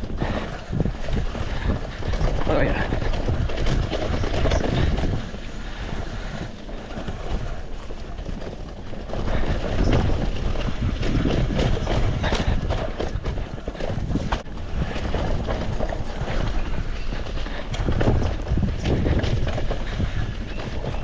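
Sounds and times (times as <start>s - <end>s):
bike knocking and rattling: 0.0s - 21.0s
bike tyre noise: 0.0s - 21.0s
wind rushing over microphone: 0.0s - 21.0s.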